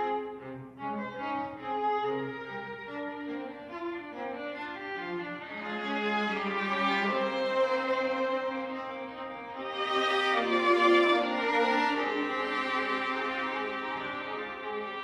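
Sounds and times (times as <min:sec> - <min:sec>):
string quartet playing held notes: 0:00.0 - 0:15.0.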